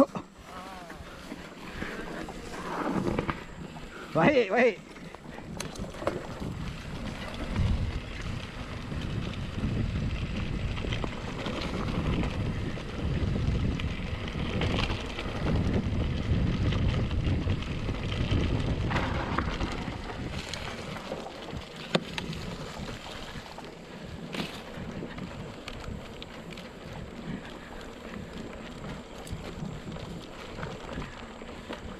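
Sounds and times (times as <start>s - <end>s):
bike rolling on trail: 0.0s - 31.9s
wind buffeting microphone: 0.8s - 31.9s.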